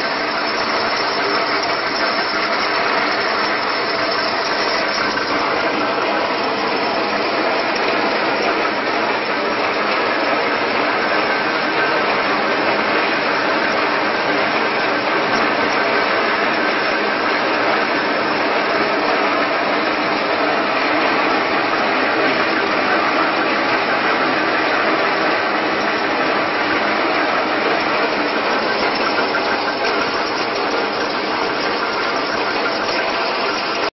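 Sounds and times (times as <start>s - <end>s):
flaking machine running: 0.0s - 33.9s.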